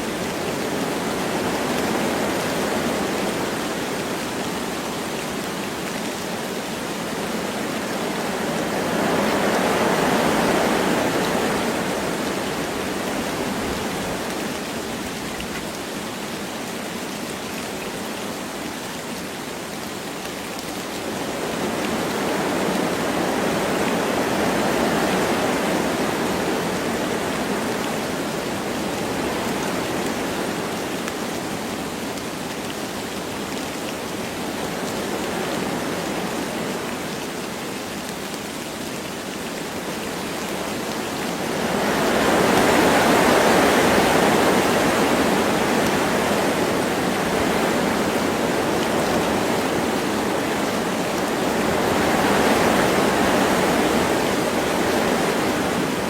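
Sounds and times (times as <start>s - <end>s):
light rain: 0.0s - 56.0s
wind rushing through trees: 0.0s - 56.0s.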